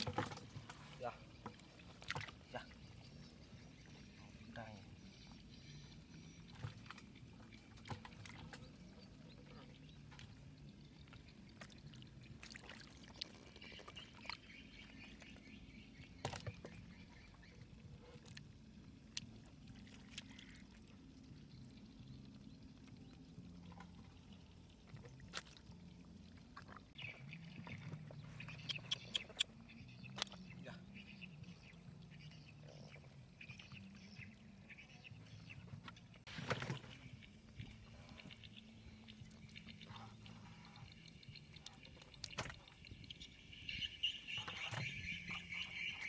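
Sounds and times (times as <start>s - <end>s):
faint water sloshing: 0.0s - 46.0s.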